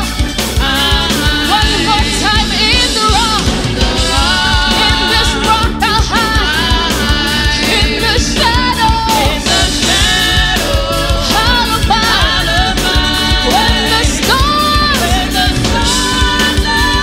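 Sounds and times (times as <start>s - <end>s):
bass guitar: 0.0s - 17.0s
drums: 0.0s - 17.0s
women singing gospel: 0.5s - 17.0s.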